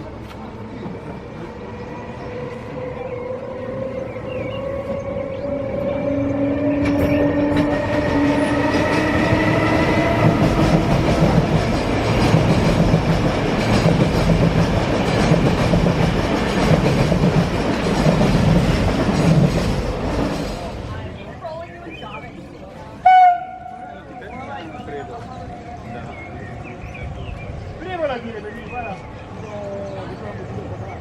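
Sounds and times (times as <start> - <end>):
electric train whine: 0.0 - 31.0
train rolling rumble: 0.0 - 31.0.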